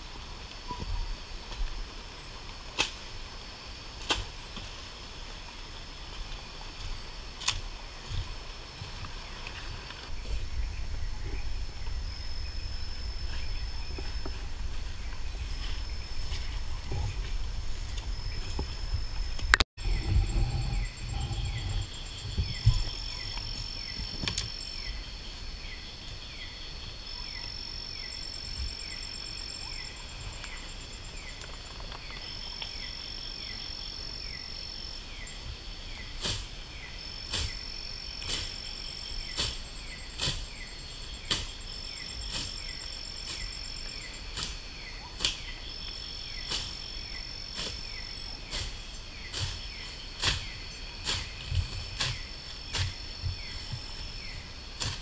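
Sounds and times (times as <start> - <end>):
faint pulsing insect call: 0.0 - 55.0
insect high trill: 3.2 - 54.8
insect repeating chirp: 9.2 - 54.8.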